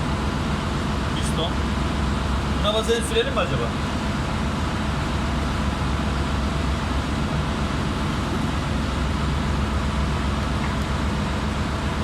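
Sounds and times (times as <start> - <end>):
machinery low hum: 0.0 - 12.0.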